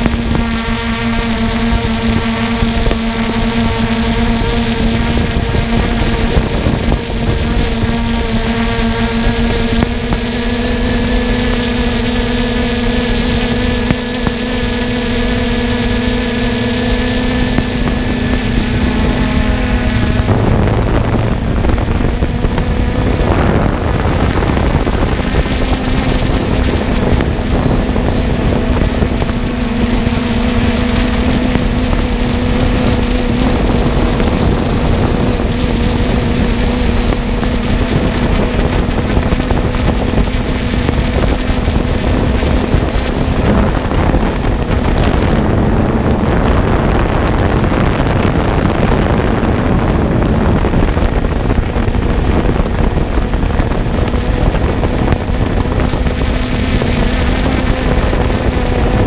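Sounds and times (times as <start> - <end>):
drone propellers humming: 0.0 - 59.0
wind on microphone: 0.0 - 59.0.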